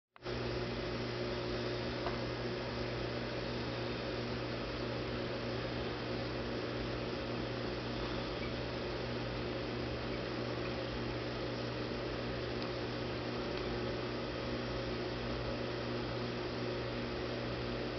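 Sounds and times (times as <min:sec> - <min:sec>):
aquarium equipment humming: 0:00.2 - 0:17.9.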